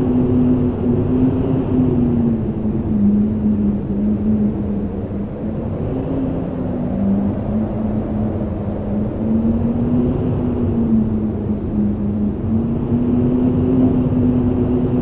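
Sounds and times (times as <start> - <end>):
howling wind: 0.0 - 15.0.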